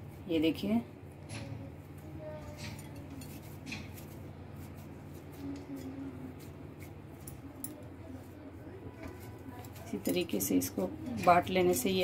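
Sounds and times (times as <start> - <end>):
steady low hum: 0.0 - 12.0
dough handling clicks and rustles: 1.1 - 12.0.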